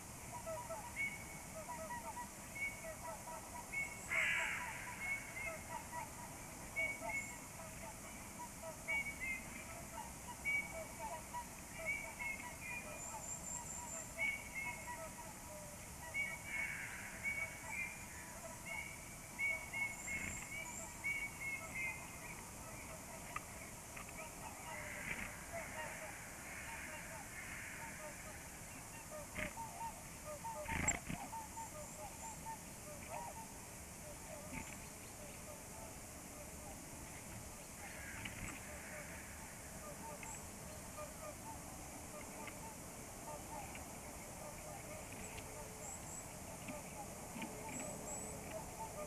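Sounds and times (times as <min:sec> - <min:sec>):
swans honking: 0:00.0 - 0:34.7, 0:37.8 - 0:49.0
birds calling: 0:00.0 - 0:49.0.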